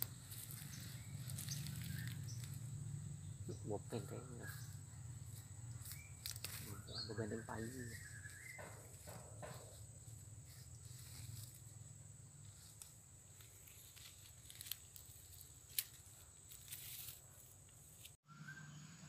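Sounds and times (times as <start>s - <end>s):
dry leaves and twigs rustling: 0.0s - 18.2s.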